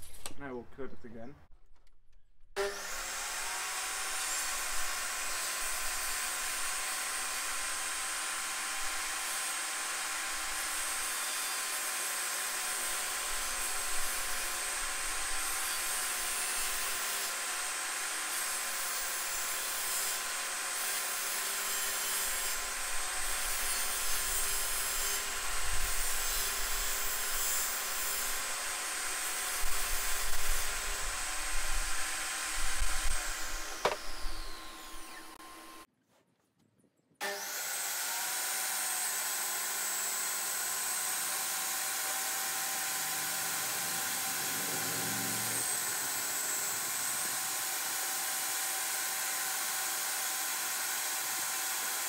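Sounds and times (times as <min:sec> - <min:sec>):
table saw motor whine: 0:02.6 - 0:35.9, 0:37.2 - 0:52.0.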